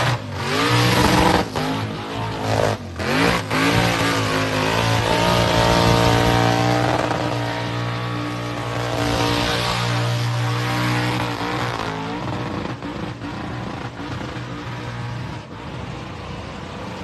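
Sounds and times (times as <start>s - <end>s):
car engine revving high: 0.0s - 15.5s.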